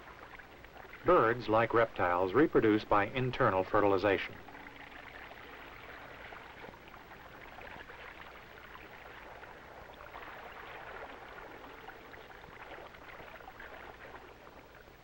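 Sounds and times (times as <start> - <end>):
faint crackling hiss: 0.0 - 15.0
steady low hum: 0.0 - 15.0.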